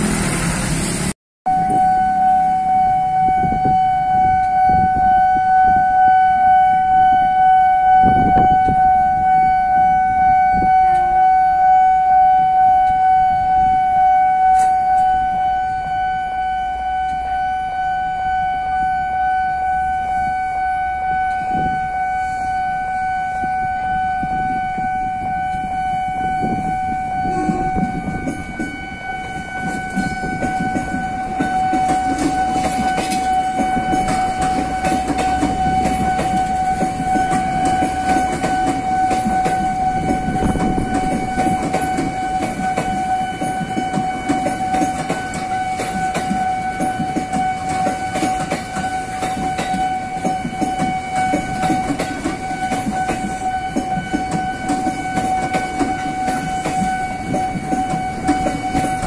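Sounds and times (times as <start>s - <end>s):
electric train rumbling past: 0.0s - 59.0s
level-crossing warning bell: 1.5s - 59.0s.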